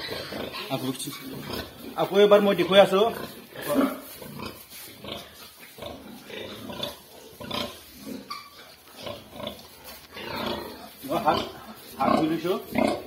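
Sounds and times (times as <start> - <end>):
pig grunting: 0.0 - 13.0.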